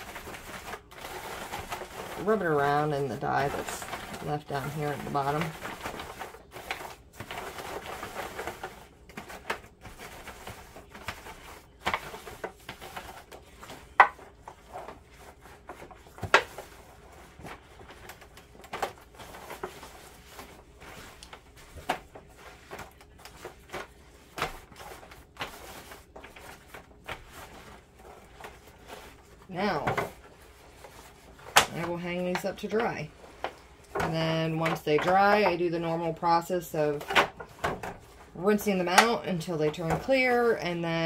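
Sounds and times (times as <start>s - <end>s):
foil pan crinkling: 0.0s - 41.0s.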